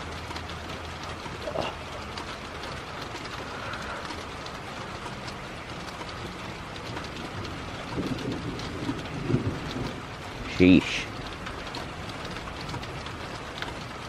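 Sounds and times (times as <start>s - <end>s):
raindrops ticking: 0.0s - 14.0s.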